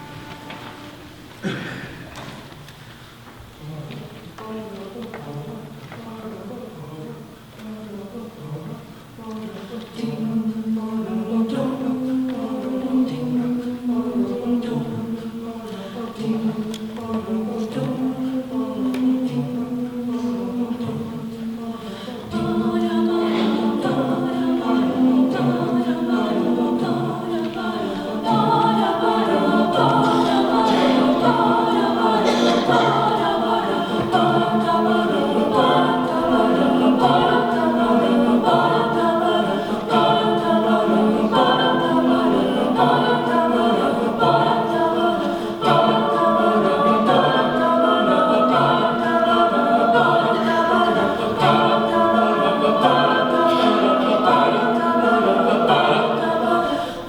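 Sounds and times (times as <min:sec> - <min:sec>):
choir singing a cappella: 0:00.0 - 0:02.0, 0:03.5 - 0:57.0.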